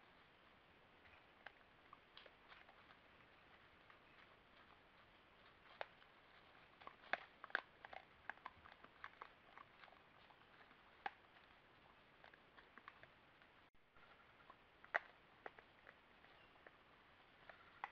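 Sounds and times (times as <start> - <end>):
animals rooting through dry leaves: 0.0 - 17.9.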